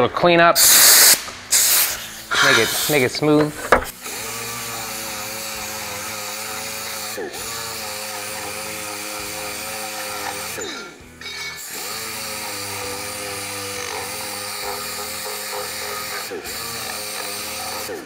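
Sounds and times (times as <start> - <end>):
pneumatic orbital sander whining: 0.7 - 18.0.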